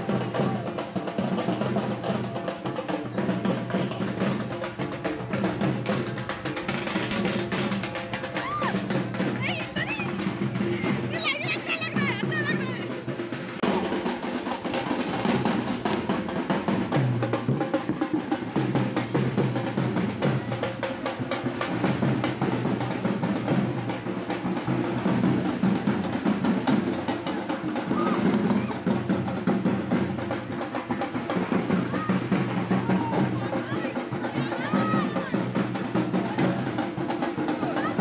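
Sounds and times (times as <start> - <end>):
barrel drums beaten fast: 0.0 - 38.0.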